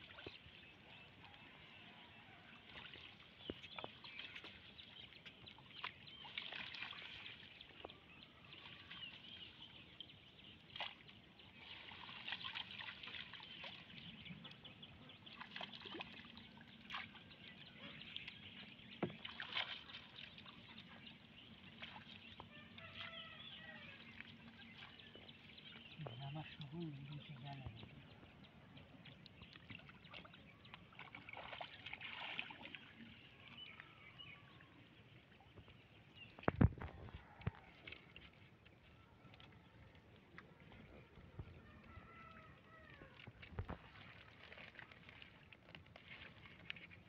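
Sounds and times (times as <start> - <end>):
water dripping and sloshing: 0.0 - 47.0
small splashes: 2.4 - 47.0.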